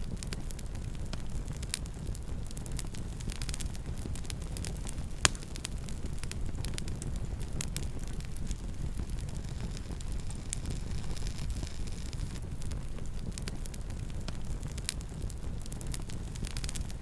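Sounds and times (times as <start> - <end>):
campfire flames rumbling: 0.0 - 17.0
fire crackling: 0.0 - 17.0.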